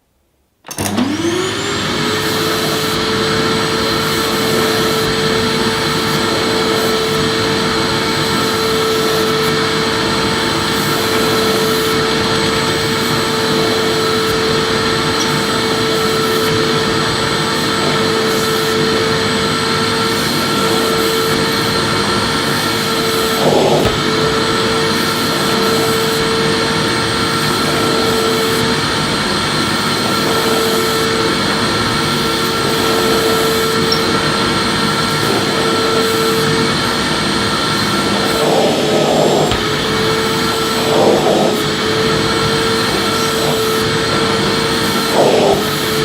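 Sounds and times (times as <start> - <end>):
vacuum cleaner motor whine: 0.6 - 46.0
vacuum cleaner air rush: 0.7 - 46.0.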